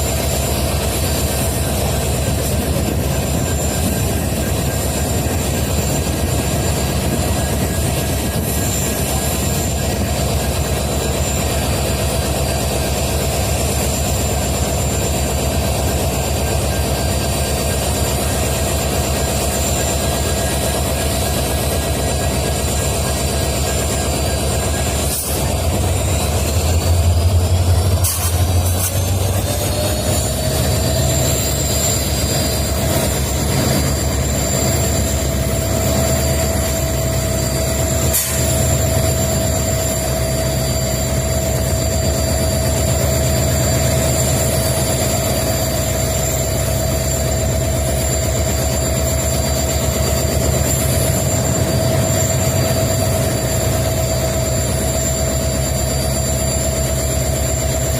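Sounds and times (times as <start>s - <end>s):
diesel engine rumbling: 0.0s - 57.9s
high-pitched whine: 0.0s - 57.9s.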